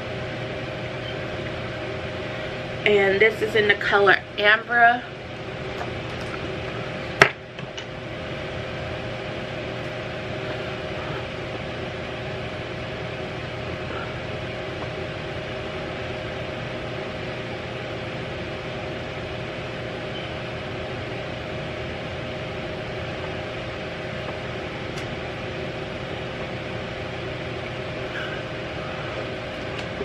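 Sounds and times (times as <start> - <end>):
appliance humming with hiss: 0.0 - 30.0.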